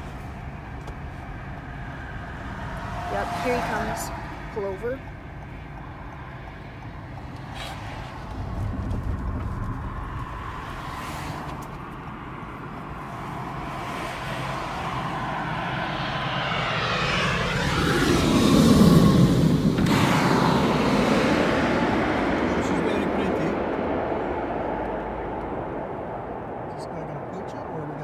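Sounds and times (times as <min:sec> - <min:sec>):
airliner jet noise: 0:00.0 - 0:28.0
road traffic rumble inside car: 0:00.0 - 0:28.0.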